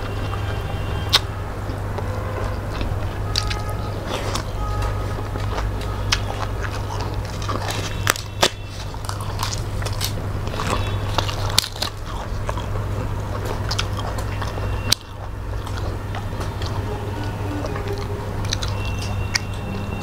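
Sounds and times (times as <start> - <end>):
chewing and crunching: 0.0 - 20.0
steady low hum: 0.0 - 20.0.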